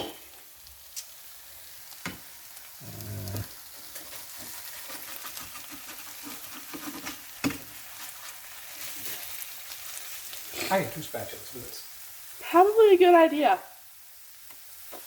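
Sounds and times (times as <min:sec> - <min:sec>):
food sizzling in a skillet: 0:00.0 - 0:15.0.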